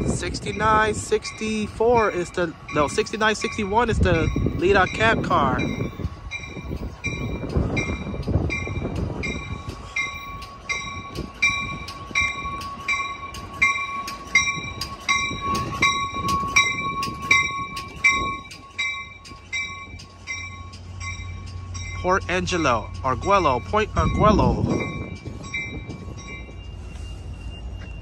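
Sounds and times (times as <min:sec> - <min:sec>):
high squeal of train: 0:00.0 - 0:28.0
low rolling train rumble: 0:00.0 - 0:28.0
train bell ringing: 0:00.0 - 0:28.0.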